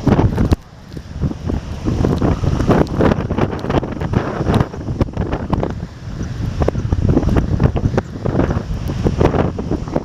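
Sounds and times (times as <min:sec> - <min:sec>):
heavy surf: 0:00.0 - 0:10.0
wind buffeting microphone: 0:00.0 - 0:10.0.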